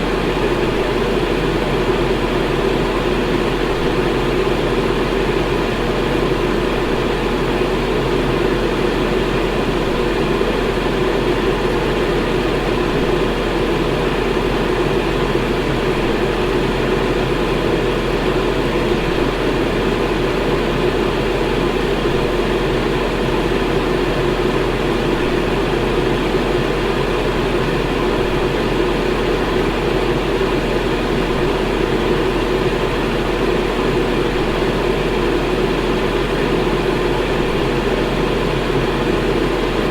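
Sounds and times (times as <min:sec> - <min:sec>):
fan low hum: 0:00.0 - 0:39.9.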